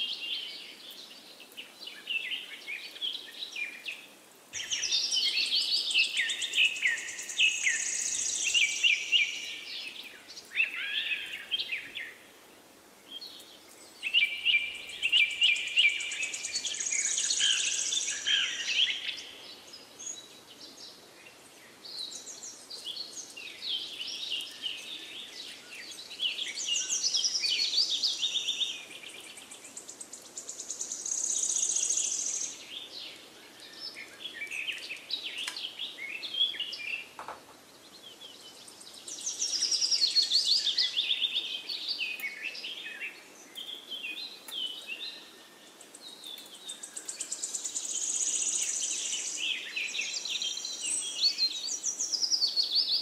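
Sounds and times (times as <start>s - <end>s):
small birds chirping and singing: 0.0s - 53.0s.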